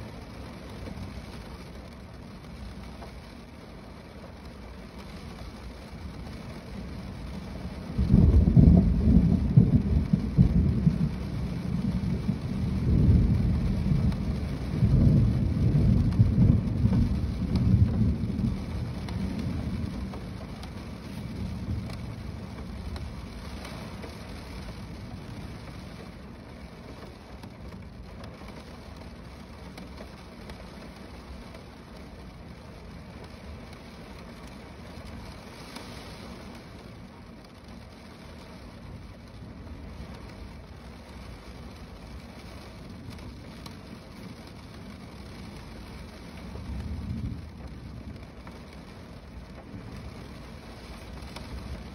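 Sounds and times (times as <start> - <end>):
rain on a car roof: 0.0 - 51.9
thunder rumbling: 5.8 - 35.5, 38.8 - 51.9.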